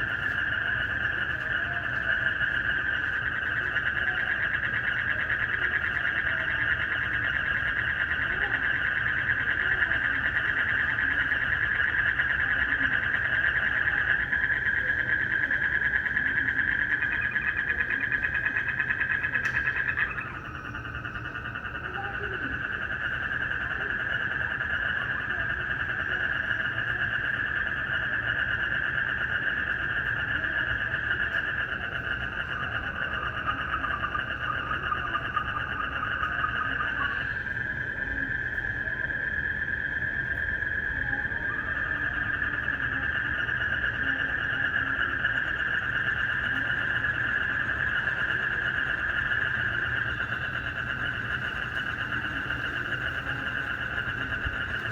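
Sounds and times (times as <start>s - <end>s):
frogs and insects calling: 0.0s - 54.9s.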